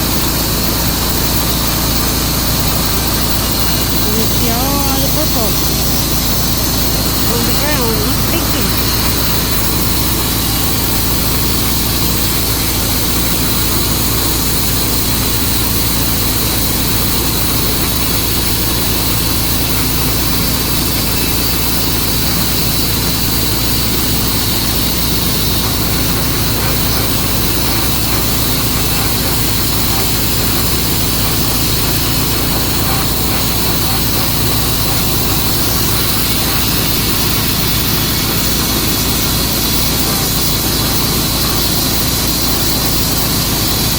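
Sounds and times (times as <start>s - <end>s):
saw hiss: 0.0s - 43.9s
sawmill engine drone: 0.0s - 43.9s.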